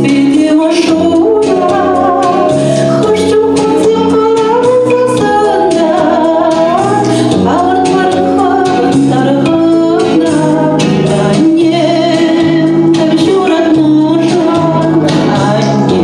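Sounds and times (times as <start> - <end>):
instrumental accompaniment: 0.0 - 16.0
woman singing: 0.0 - 16.0.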